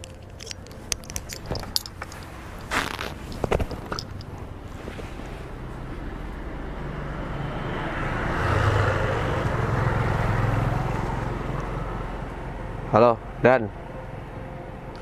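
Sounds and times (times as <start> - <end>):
vehicle engine passing: 1.6 - 14.9.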